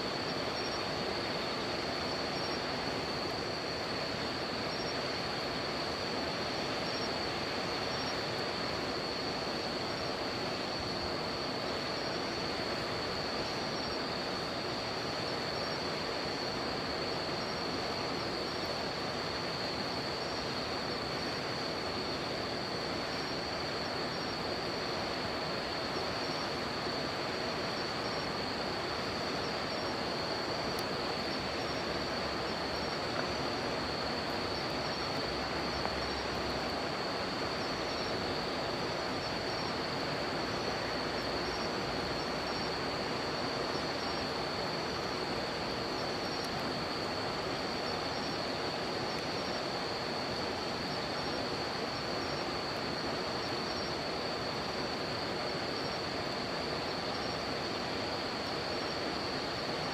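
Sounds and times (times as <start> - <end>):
insect chirping: 0.0 - 59.9
insect trilling drone: 0.0 - 59.9
river water flowing: 0.1 - 59.9.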